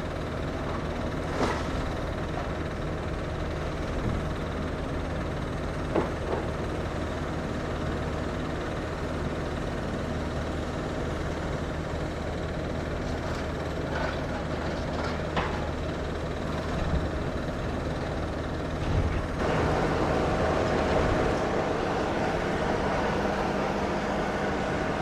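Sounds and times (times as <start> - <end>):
diesel machinery engines running: 0.0 - 25.0.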